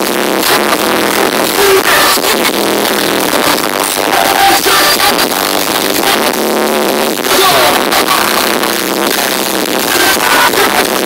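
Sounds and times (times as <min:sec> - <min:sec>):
distorted live music over speakers: 0:00.0 - 0:11.0.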